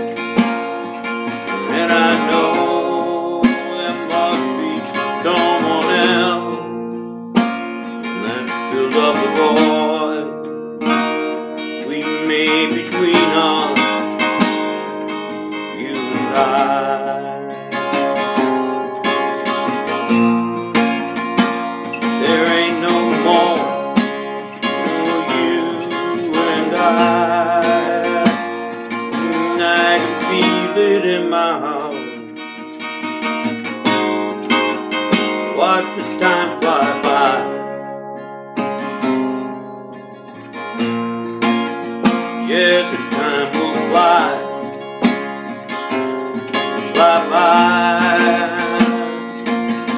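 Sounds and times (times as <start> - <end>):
acoustic guitar strumming: 0.0 - 49.9.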